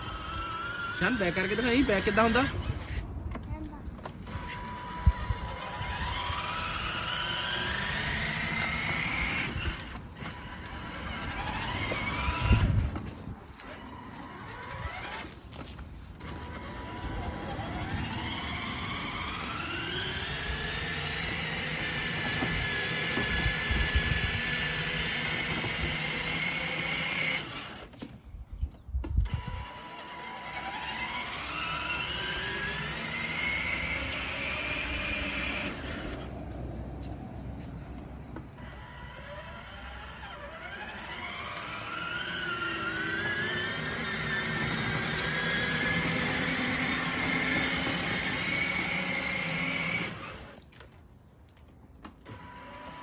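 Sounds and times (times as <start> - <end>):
toy truck motor whining: 0.0 - 3.0, 4.0 - 28.1, 29.1 - 36.4, 38.5 - 50.9, 52.1 - 53.0.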